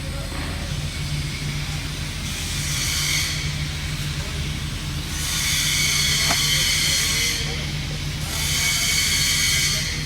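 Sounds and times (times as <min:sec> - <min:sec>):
low hum from welding set: 0:00.0 - 0:10.0.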